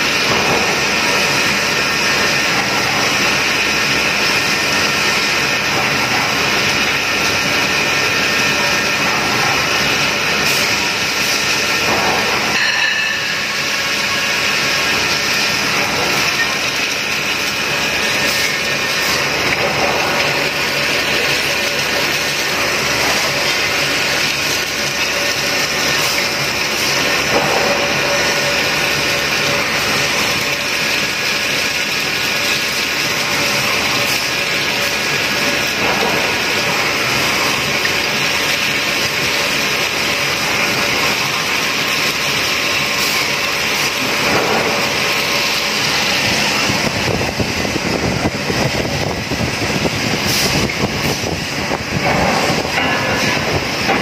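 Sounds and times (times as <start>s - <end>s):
coolant spray hissing: 0.0s - 53.9s
machine cutting metal: 0.0s - 54.0s.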